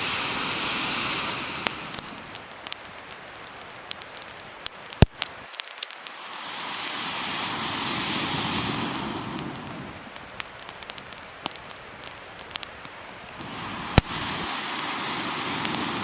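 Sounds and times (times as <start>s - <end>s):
rushing hiss: 0.0s - 12.2s, 13.1s - 16.0s
wood fire crackling and popping: 0.0s - 16.0s.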